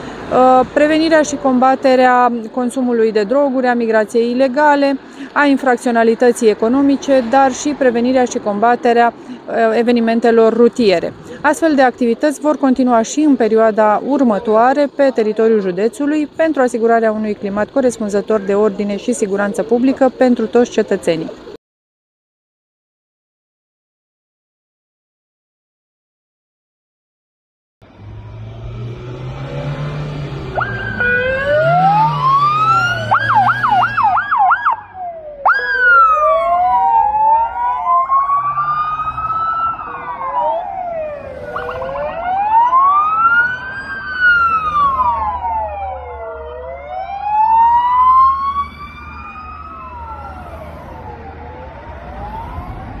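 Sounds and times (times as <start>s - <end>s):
police sirens wailing: 0.0s - 21.6s, 27.9s - 53.0s
rumble of passing vehicles: 0.0s - 21.6s, 27.8s - 53.0s.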